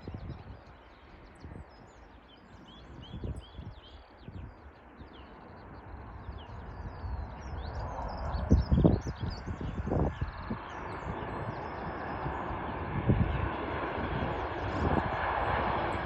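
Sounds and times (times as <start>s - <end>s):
jet airliner rumble: 0.0s - 16.0s
small birds chirping: 0.0s - 16.0s
wind gusting on microphone: 0.0s - 16.0s.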